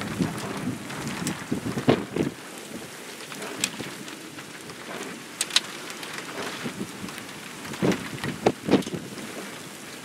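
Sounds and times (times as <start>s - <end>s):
rain hiss: 0.0s - 10.0s
raindrops tapping near microphone: 0.0s - 10.0s.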